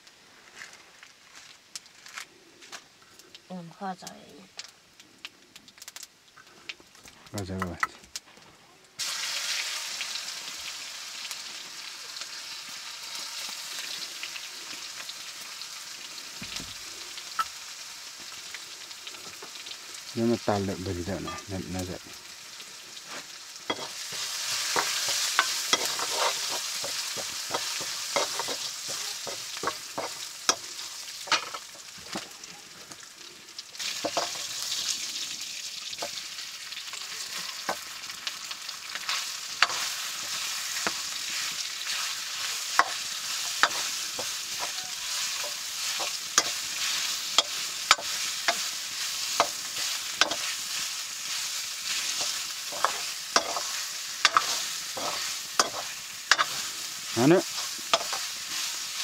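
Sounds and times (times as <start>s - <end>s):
chicken sizzling in oil: 9.0s - 59.0s.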